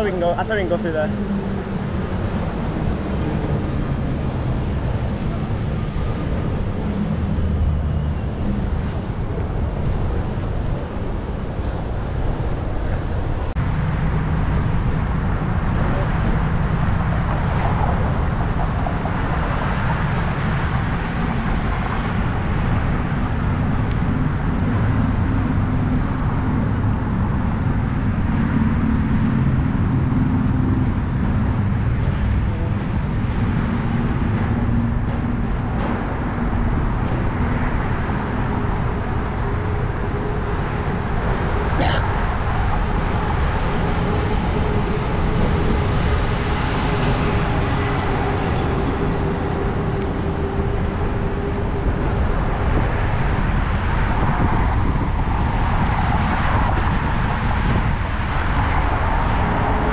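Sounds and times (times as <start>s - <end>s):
city street traffic: 0.0s - 59.9s
wind rumble on microphone: 0.0s - 59.9s.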